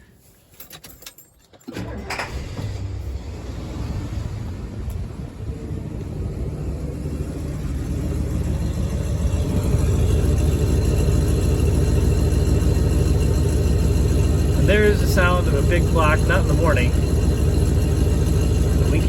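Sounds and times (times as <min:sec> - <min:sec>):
car engine idling: 0:01.7 - 0:19.0.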